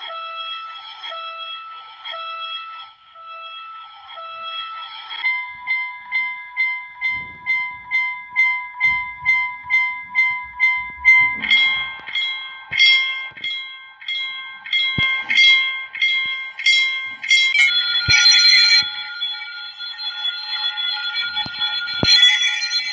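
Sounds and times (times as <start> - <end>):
level crossing bells ringing: 0.0 - 22.9.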